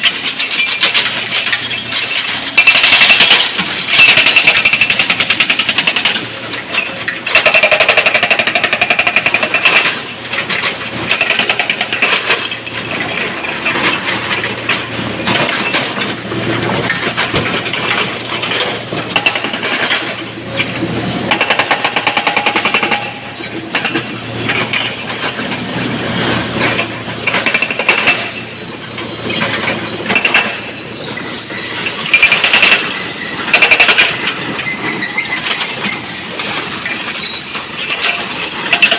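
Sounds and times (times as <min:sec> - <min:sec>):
excavator engine running: 0:00.0 - 0:38.9
rocks clattering against steel: 0:00.0 - 0:38.9.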